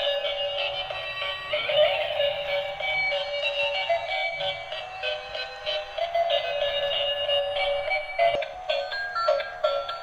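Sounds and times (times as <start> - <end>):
tinny electronic toy melody: 0.0 - 10.0.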